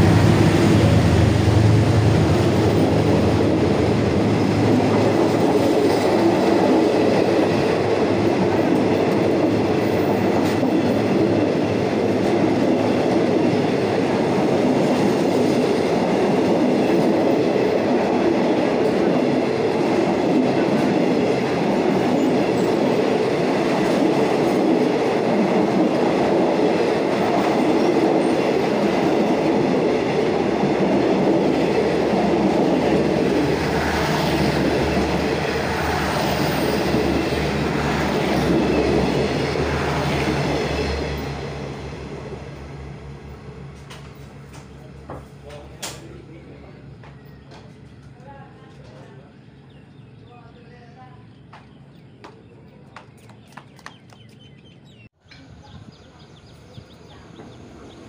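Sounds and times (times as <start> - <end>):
train wheels running on rails: 0.0 - 49.2, 51.4 - 58.0.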